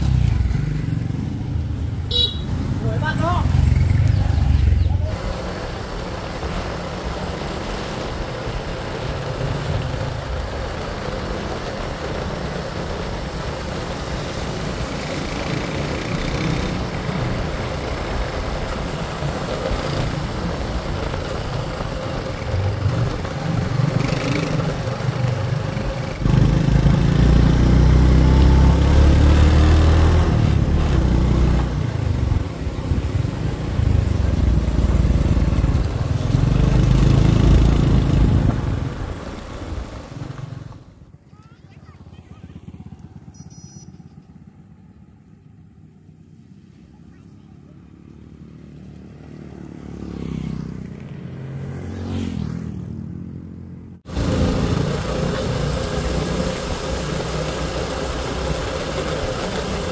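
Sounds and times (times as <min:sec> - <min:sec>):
road noise: 0:00.0 - 0:59.9
vehicle engine rumble: 0:00.0 - 0:59.9.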